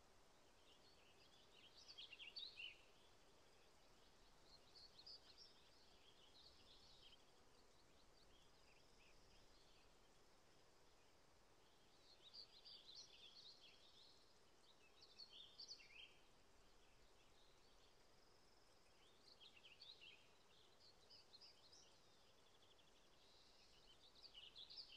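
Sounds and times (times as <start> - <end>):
outdoor hiss: 0.0 - 24.9
songbird chirping: 0.0 - 24.9.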